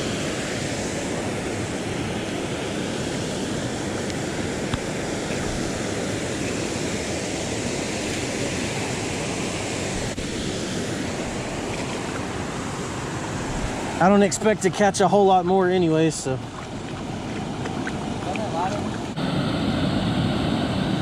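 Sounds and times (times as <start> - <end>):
waterfall rushing: 0.0 - 19.2.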